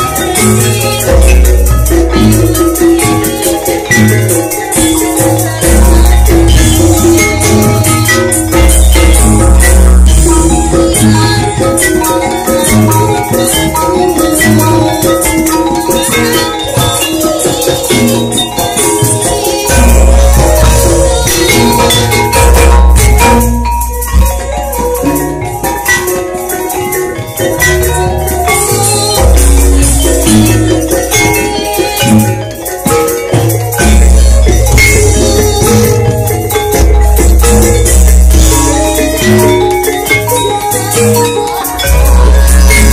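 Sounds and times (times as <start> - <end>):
drum strokes: 0.0 - 42.9.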